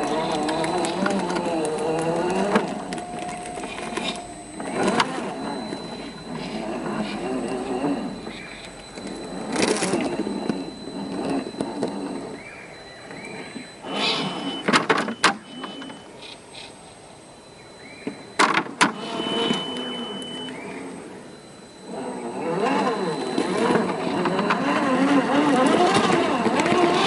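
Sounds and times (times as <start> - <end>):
electric motor whining: 0.0 - 16.1, 18.8 - 27.0.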